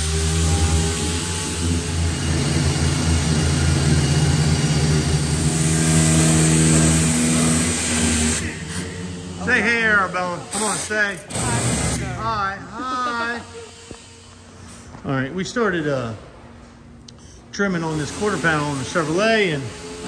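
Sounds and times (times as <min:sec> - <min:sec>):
air sanders on sheet metal: 0:00.0 - 0:16.2, 0:17.6 - 0:20.0.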